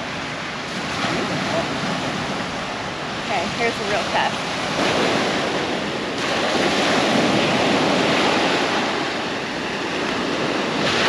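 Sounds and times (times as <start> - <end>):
surf washing up a beach: 0.0 - 11.0
wind on microphone: 0.0 - 11.0.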